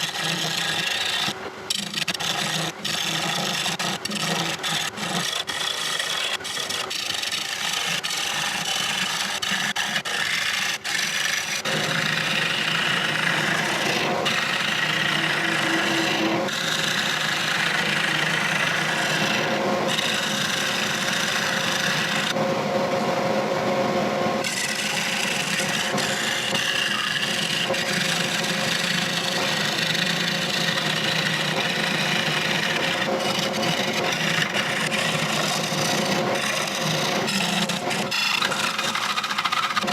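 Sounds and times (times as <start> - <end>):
gouge shaving wood on lathe: 0.0 - 22.4, 24.4 - 39.9.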